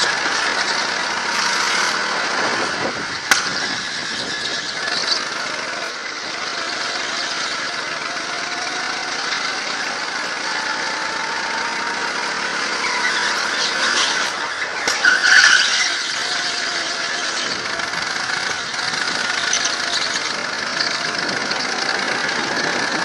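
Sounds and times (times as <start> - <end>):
go-kart engine running: 0.0 - 23.0
tyre squeal: 0.0 - 23.0.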